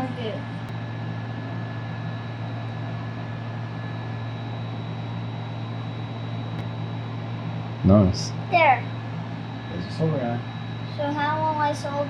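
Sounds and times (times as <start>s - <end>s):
faint high whine: 0.0s - 12.0s
machine hum: 0.0s - 12.0s.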